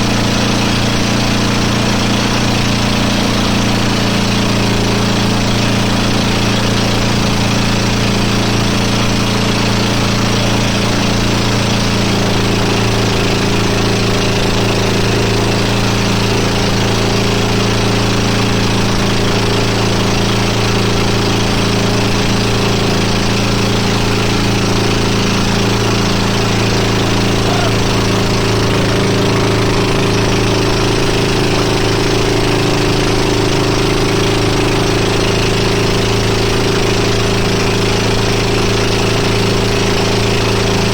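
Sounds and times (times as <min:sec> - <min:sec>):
motorboat engine droning: 0:00.0 - 0:40.9.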